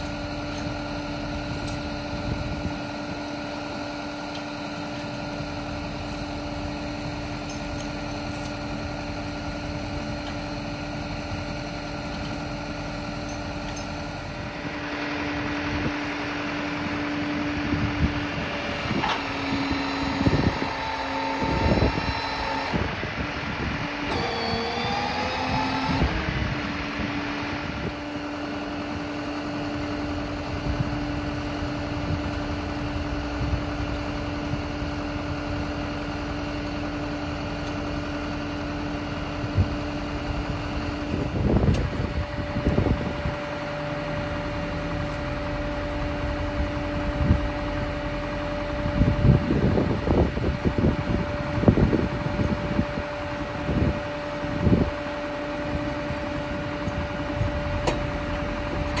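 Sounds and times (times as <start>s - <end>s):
truck engine idling: 0.0s - 24.8s, 26.2s - 59.0s.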